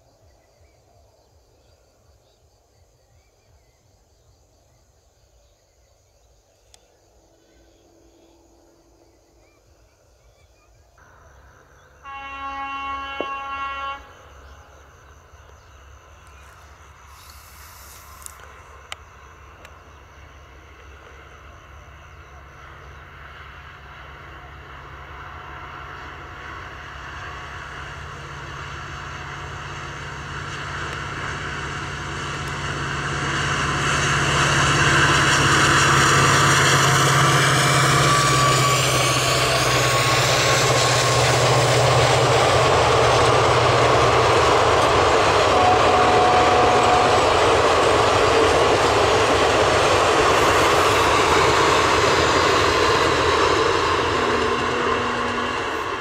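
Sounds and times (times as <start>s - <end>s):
train wheels rumbling on track: 6.8s - 56.0s.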